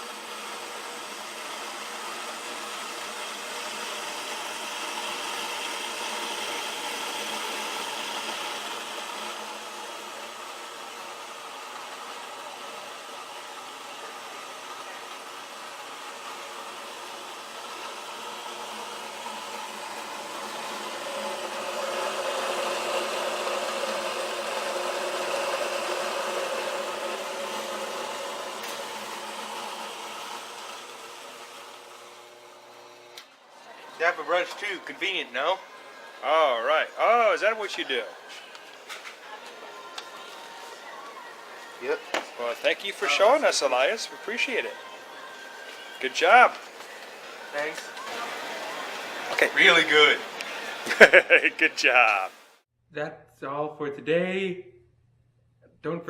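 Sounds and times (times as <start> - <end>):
electric coffee grinder grinding beans: 0.0 - 52.6.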